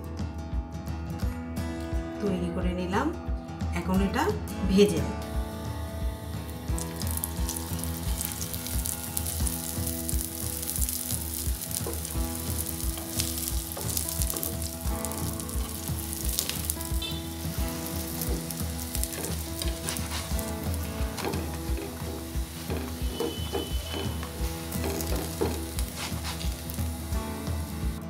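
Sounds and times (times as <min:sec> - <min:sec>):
flatbread sizzling in a pan: 0:05.4 - 0:28.0.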